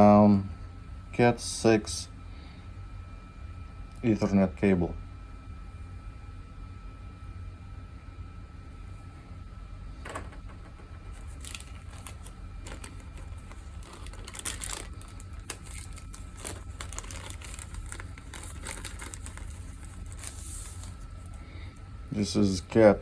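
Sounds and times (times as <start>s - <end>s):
faint steady whine: 0.0s - 23.0s
steady low hum: 0.0s - 23.0s.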